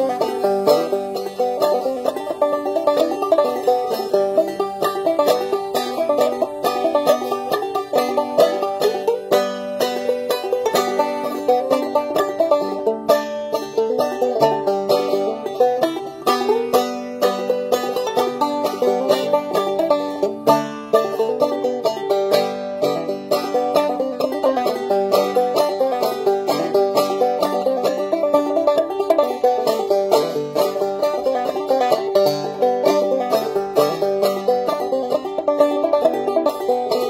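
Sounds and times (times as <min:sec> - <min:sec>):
banjo plucking: 0:00.0 - 0:37.0.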